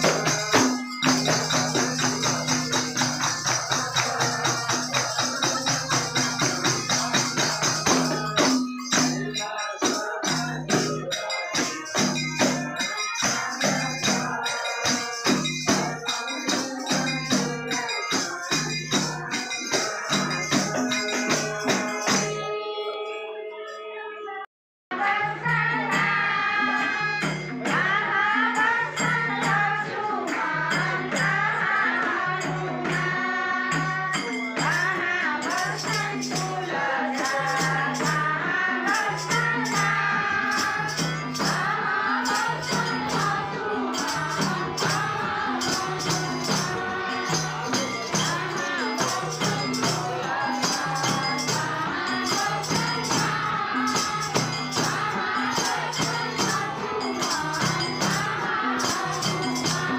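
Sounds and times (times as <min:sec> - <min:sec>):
group singing a hymn: 0:00.0 - 0:22.8, 0:24.9 - 0:59.9
hand percussion beat: 0:00.0 - 0:23.1, 0:24.9 - 0:59.9.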